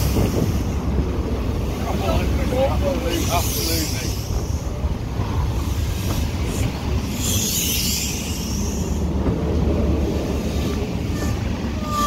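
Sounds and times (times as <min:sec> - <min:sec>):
train coaches rumbling past: 0:00.0 - 0:12.0.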